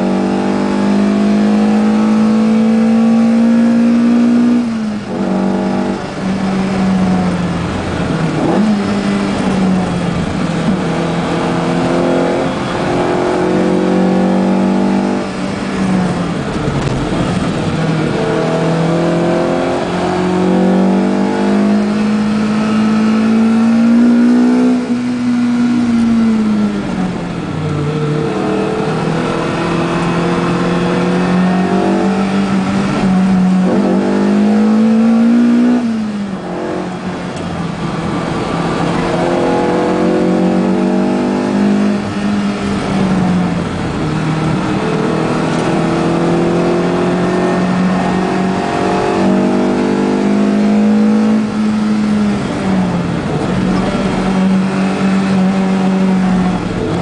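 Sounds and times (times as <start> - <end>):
race car engine from inside: 0.0 - 57.0
road and wind noise: 0.0 - 57.0.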